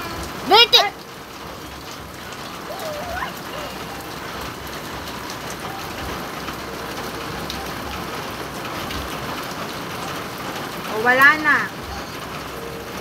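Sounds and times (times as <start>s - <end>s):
rain on concrete and puddles: 0.0s - 13.0s.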